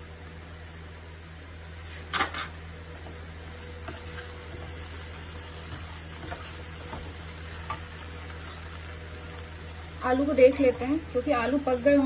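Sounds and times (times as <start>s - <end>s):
vegetables frying in oil: 0.0s - 12.0s.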